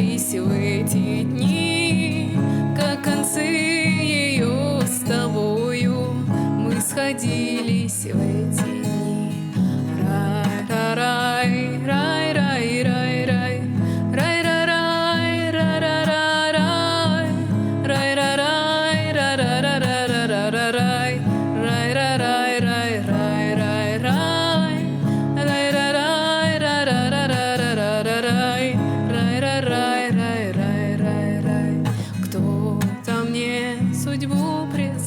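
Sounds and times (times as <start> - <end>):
strummed acoustic guitar: 0.0 - 35.0
woman singing wordless refrain: 0.0 - 35.0.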